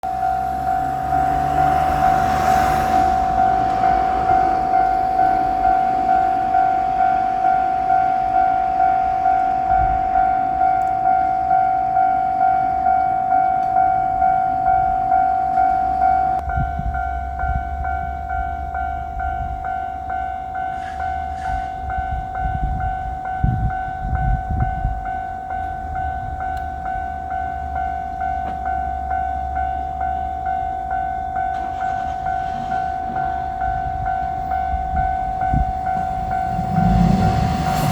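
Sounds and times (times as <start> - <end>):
railcar rumbling past: 0.0 - 37.9
level crossing bell ringing: 3.0 - 37.9.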